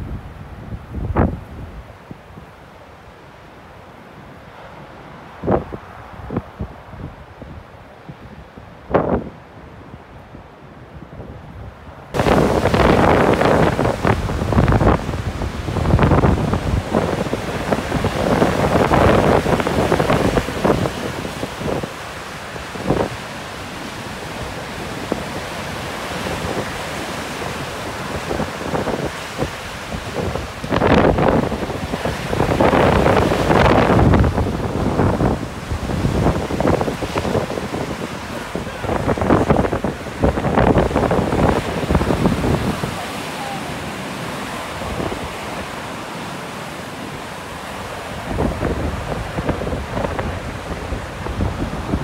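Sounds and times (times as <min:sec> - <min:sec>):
wind buffeting microphone: 0:00.0 - 0:02.5, 0:04.2 - 0:52.0
waves breaking on shore: 0:00.0 - 0:52.0.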